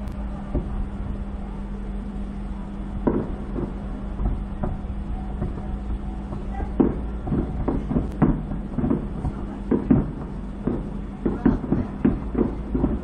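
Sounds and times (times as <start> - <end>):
distant fireworks bangs: 0.0 - 1.1, 2.6 - 13.0
low rumble: 0.0 - 13.0.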